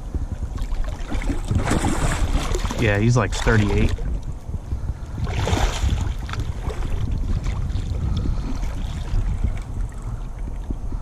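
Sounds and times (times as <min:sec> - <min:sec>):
water sloshing along hull: 0:00.0 - 0:11.0
wind rumble on microphone: 0:00.0 - 0:11.0.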